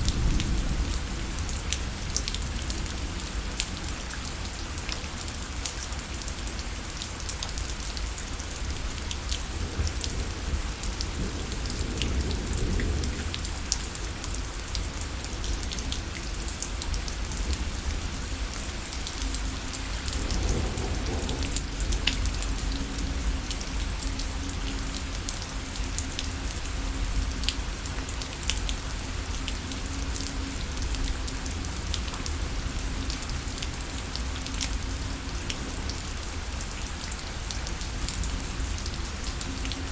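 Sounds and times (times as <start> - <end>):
raindrops ticking on a surface: 0.0 - 39.9
steady rainfall: 0.0 - 39.9.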